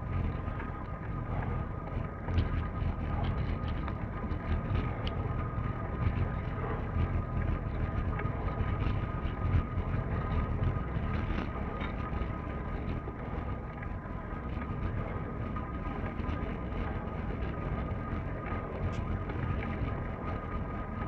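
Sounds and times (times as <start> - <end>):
faint steady whine: 0.0 - 21.0
low rumble of movement: 0.0 - 21.0
wind buffeting microphone: 0.0 - 21.0.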